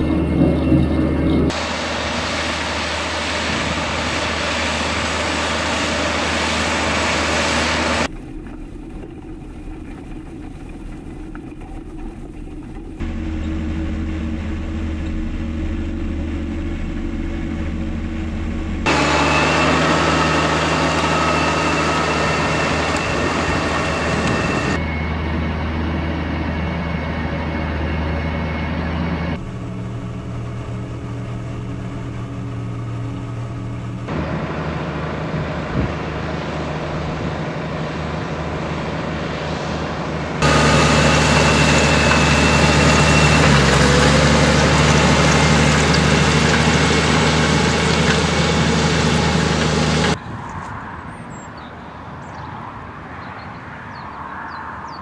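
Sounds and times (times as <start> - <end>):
tractor diesel engine under load: 0.0 - 50.2.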